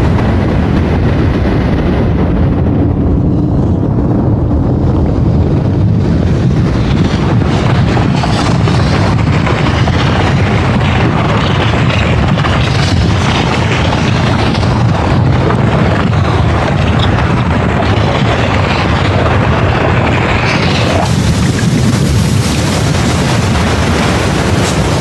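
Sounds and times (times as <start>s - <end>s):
deep volcanic rumble: 0.0s - 25.0s
hissing wash: 0.0s - 25.0s.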